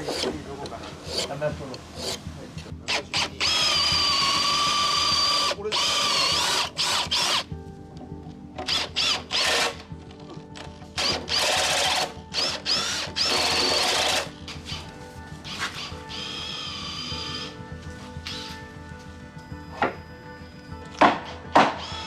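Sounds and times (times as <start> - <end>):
power drill whining: 0.0 - 7.5, 8.6 - 9.9, 11.0 - 17.6, 18.2 - 18.6, 19.7 - 22.0.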